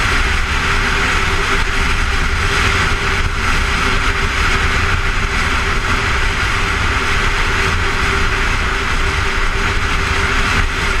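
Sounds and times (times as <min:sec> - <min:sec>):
motorcycle engine and tyre rumble: 0:00.0 - 0:11.0
wind rush on microphone: 0:00.0 - 0:11.0.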